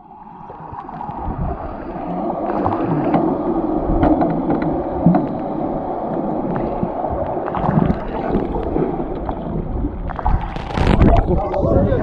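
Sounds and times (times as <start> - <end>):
water churning and bubbling underwater: 0.0 - 12.0.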